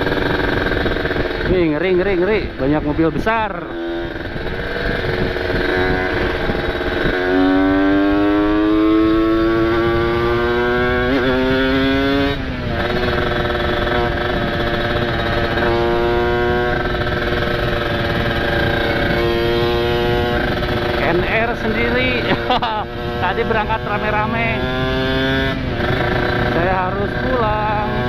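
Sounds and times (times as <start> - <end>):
wind rush: 0.0 - 27.8
two-stroke motorcycle engine: 0.0 - 28.0.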